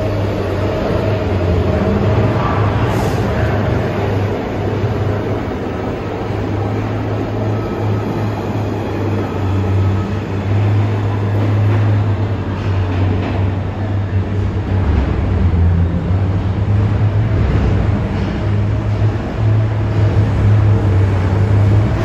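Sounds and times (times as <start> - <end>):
rail noise: 0.0 - 22.0
subway train humming: 0.0 - 22.0.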